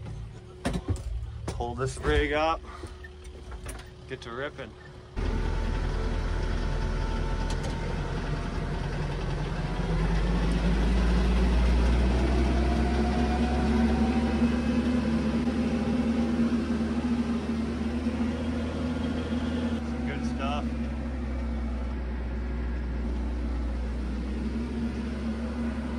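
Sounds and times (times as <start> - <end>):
excavator diesel engine under load: 0.0 - 25.9.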